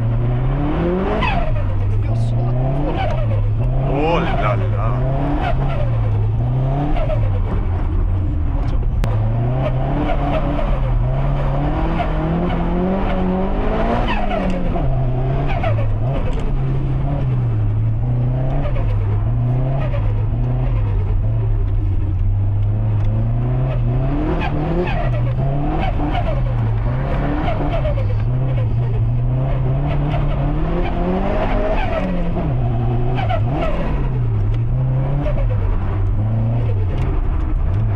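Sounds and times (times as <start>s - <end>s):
car engine revving hard: 0.0s - 7.6s, 9.1s - 21.4s, 23.0s - 37.9s.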